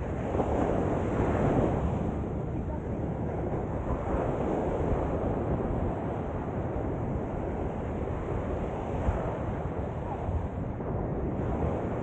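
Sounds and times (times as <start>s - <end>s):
surf waves washing onto beach: 0.0s - 12.0s
wind buffeting microphone: 0.0s - 12.0s.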